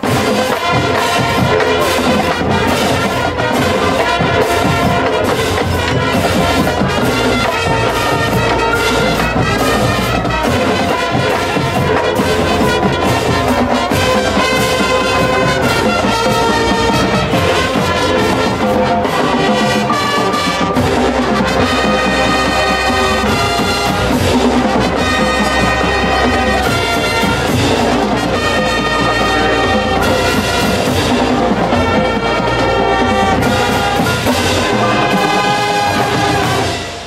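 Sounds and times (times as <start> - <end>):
mallet percussion: 0.0 - 37.0
marching band brass: 0.0 - 37.0
snare tenor and bass drums: 0.0 - 37.0.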